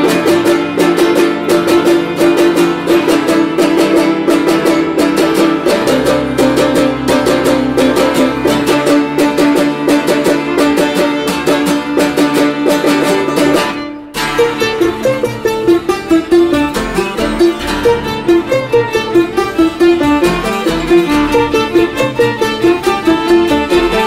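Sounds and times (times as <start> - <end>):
plucked string instrument: 0.0 - 24.0.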